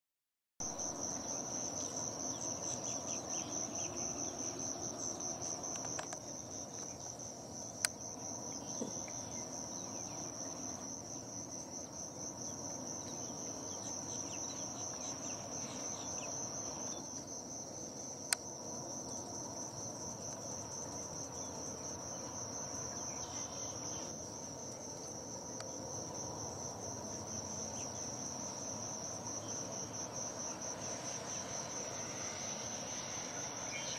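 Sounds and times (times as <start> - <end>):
high-pitched insect trill: 0.6 - 33.9.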